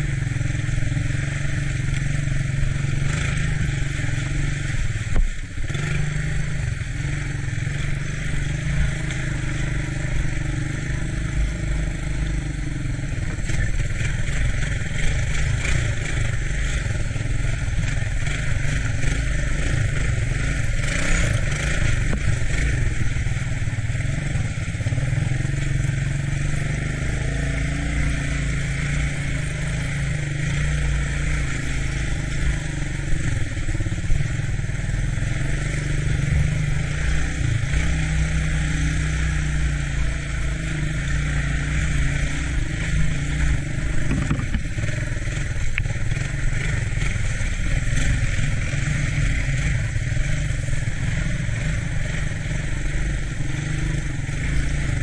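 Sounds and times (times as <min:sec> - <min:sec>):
three-wheeler engine running: 0:00.0 - 0:55.0.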